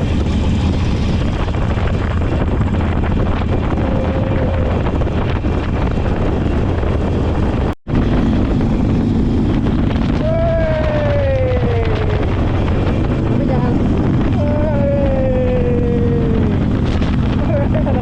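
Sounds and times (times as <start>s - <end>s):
motorcycle engine drone: 0.0s - 18.0s
wind buffeting on microphone: 0.0s - 18.0s.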